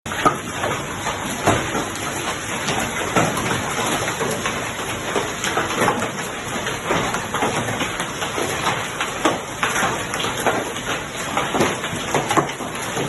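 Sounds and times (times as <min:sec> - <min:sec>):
hailstones striking surfaces: 0:00.1 - 0:13.0.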